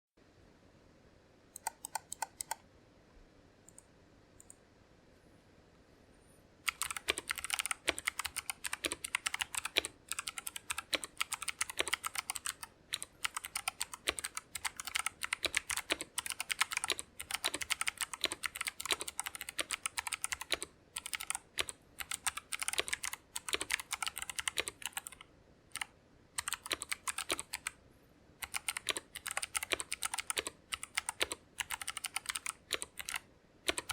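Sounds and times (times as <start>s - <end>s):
mechanical keyboard typing clicks: 1.6s - 2.6s, 6.7s - 25.2s, 25.8s - 27.8s, 28.4s - 33.9s.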